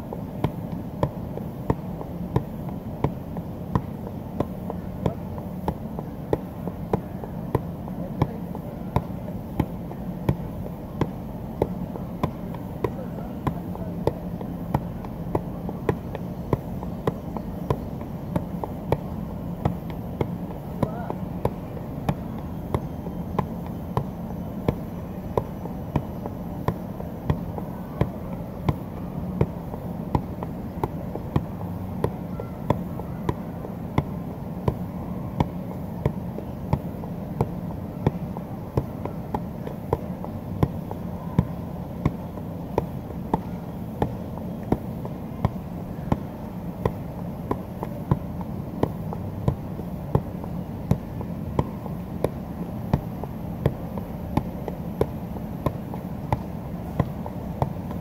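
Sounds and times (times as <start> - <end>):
low background noise: 0.0 - 58.0
soccer ball kick thumps: 0.1 - 34.8, 35.4 - 58.0.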